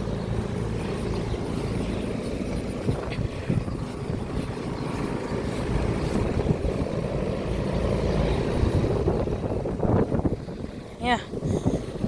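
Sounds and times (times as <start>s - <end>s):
compressor hum: 0.0s - 12.0s.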